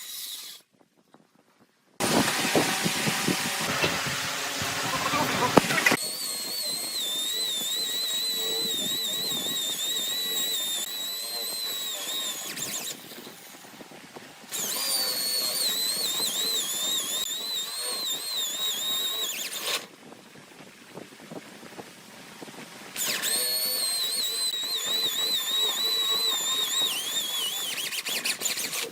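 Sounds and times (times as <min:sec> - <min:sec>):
power tool whining on wood: 0:00.0 - 0:00.7, 0:02.0 - 0:19.9, 0:22.9 - 0:28.9.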